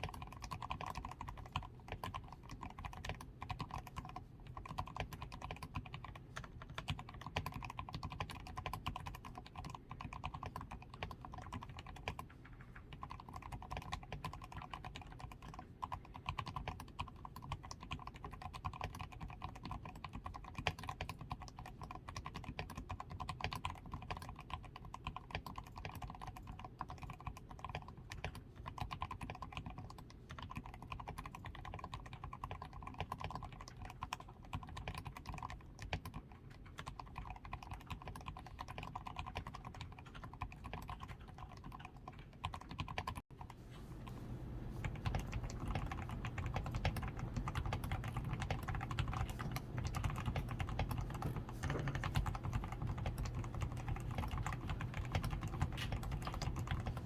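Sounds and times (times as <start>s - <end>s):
mechanical keyboard typing: 0.0s - 43.3s, 44.7s - 57.0s.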